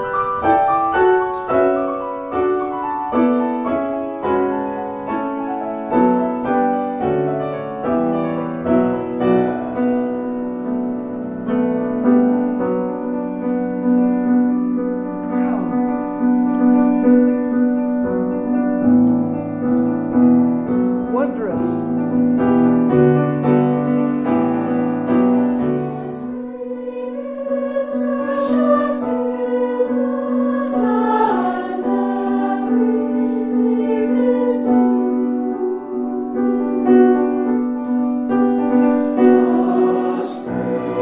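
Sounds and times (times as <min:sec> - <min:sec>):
piano accompaniment: 0:00.0 - 0:41.0.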